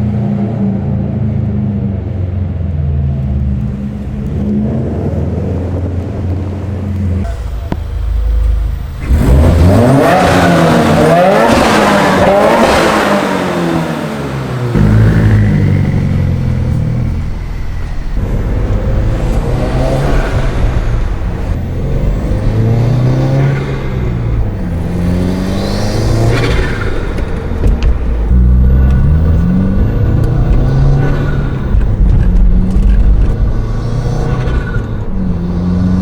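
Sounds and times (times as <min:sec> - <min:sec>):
car engine revving: 0:03.1 - 0:36.0.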